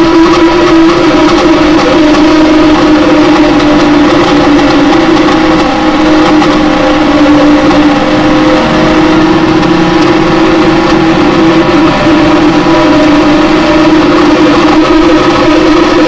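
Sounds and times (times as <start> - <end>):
buzzy alarm tone: 0.0 - 16.0.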